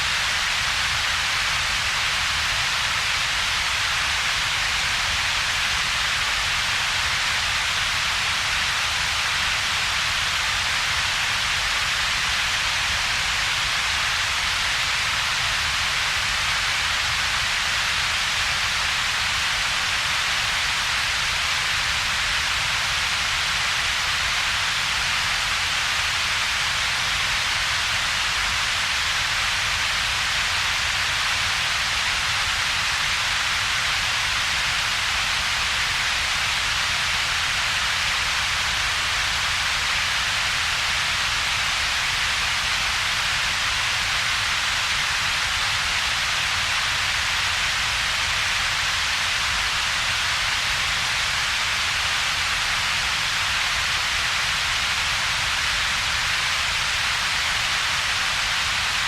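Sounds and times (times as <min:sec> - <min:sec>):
synthetic noise rumble and hiss: 0:00.0 - 0:59.0.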